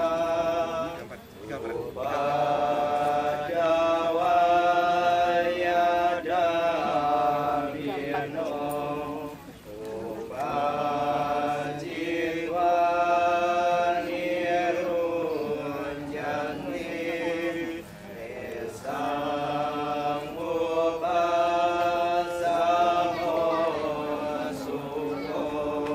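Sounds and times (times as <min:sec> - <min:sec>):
group chanting: 0:00.0 - 0:25.9.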